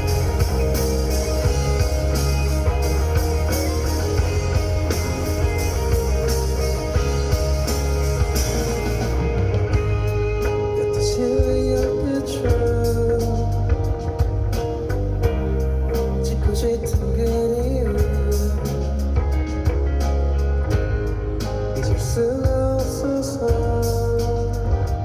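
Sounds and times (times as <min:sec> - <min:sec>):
live rock band playing: 0:00.0 - 0:25.0.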